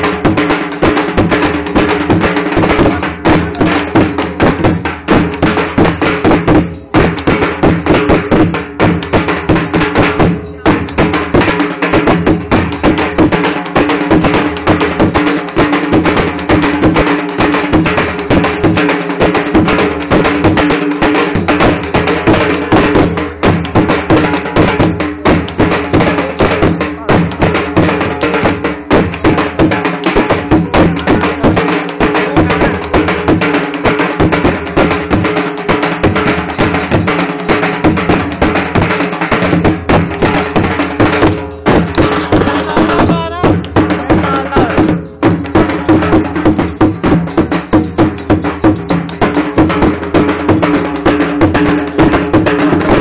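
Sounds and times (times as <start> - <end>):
drums beaten in fast rhythm: 0.0 - 53.0.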